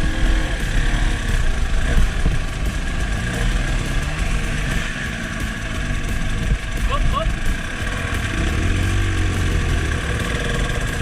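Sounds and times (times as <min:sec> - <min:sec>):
off-road motorcycle engine: 0:00.0 - 0:11.0.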